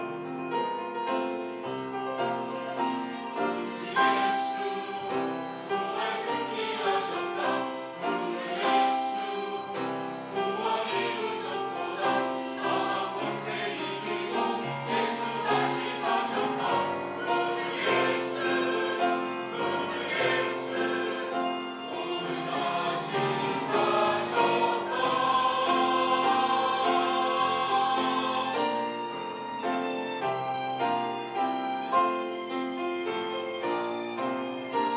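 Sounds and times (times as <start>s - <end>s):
church choir singing: 1.6s - 34.9s.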